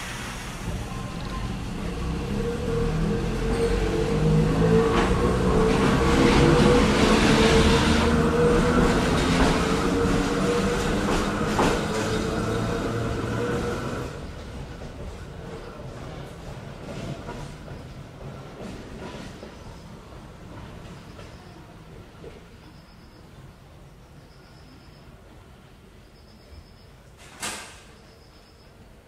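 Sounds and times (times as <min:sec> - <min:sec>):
electric railcar whine and rolling: 0:00.0 - 0:29.0.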